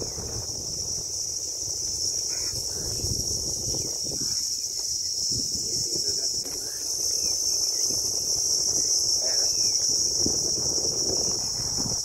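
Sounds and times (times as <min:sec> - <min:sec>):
insect chorus drone: 0:00.0 - 0:12.0
low uneven rumble: 0:00.0 - 0:12.0.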